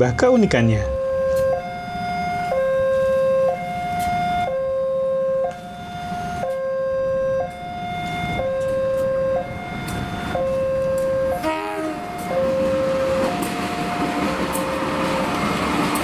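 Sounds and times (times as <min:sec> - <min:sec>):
two-tone crossing alarm: 0:00.0 - 0:16.0.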